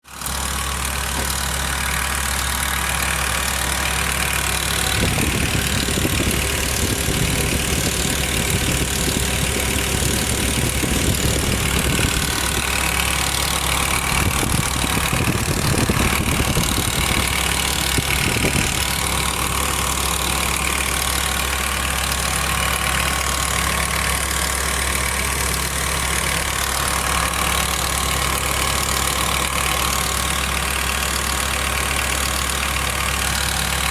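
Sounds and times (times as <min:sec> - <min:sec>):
car engine idling with ticking: 0:00.0 - 0:33.9.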